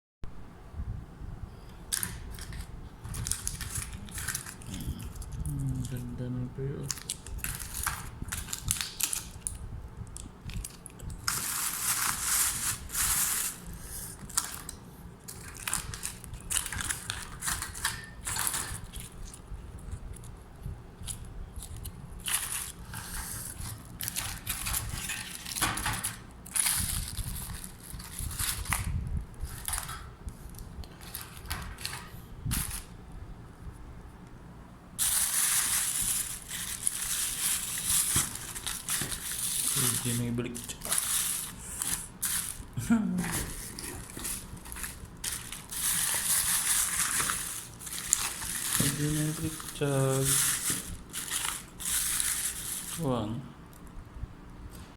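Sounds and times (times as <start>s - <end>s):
hands crinkling and rustling: 1.8s - 6.1s, 6.8s - 32.9s, 35.0s - 53.9s.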